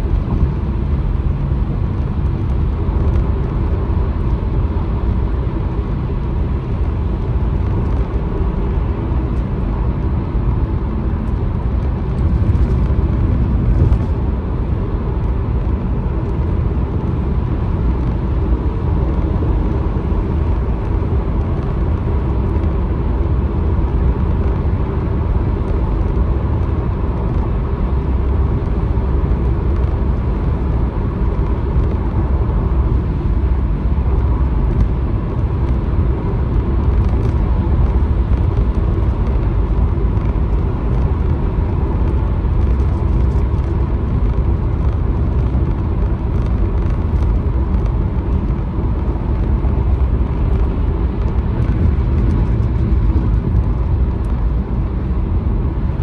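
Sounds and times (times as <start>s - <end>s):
car road rumble and engine: 0.0s - 56.0s.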